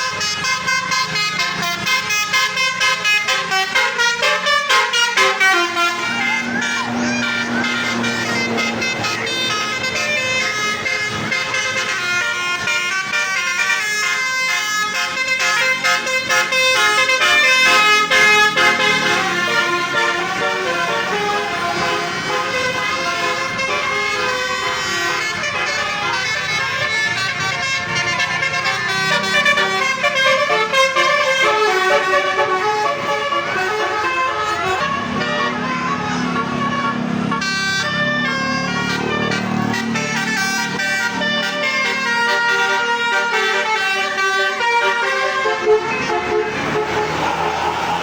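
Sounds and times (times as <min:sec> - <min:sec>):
bus air horns playing melodies: 0:00.0 - 0:48.0.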